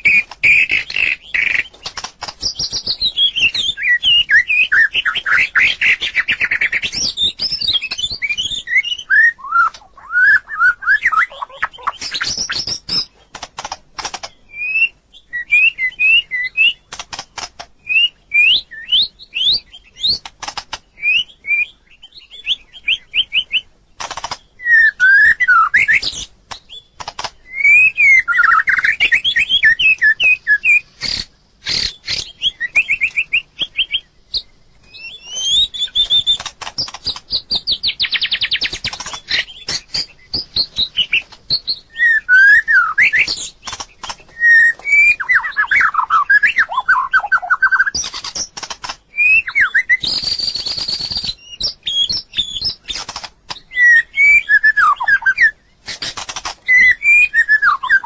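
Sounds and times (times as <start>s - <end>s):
bird singing whistled phrases: 0.0s - 1.8s, 2.4s - 13.1s, 14.5s - 16.8s, 17.8s - 20.3s, 21.0s - 23.7s, 24.6s - 48.4s, 49.1s - 53.1s, 53.7s - 58.0s
sharp bird clicks: 0.0s - 58.0s.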